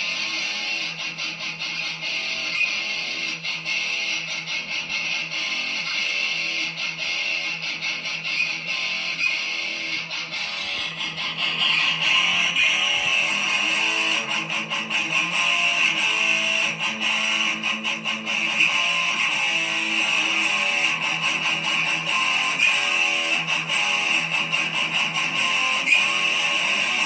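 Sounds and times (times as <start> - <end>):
strummed electric guitar: 0.0 - 27.0.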